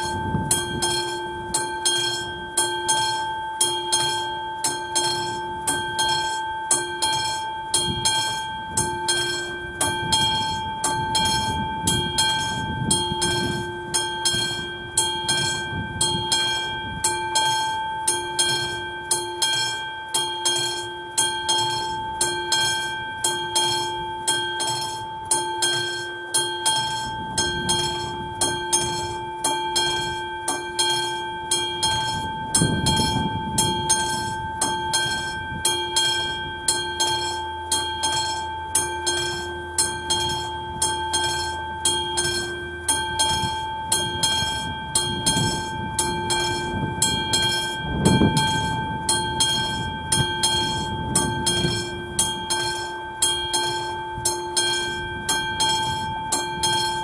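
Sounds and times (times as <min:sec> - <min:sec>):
level-crossing warning bell ringing: 0:00.0 - 0:57.0.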